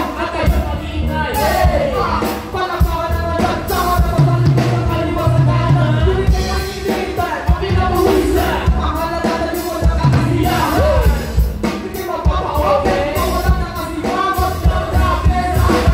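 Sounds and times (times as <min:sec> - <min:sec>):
drum kit beat: 0:00.0 - 0:15.9
keyboard: 0:00.0 - 0:15.9
people rapping and singing: 0:00.0 - 0:15.9.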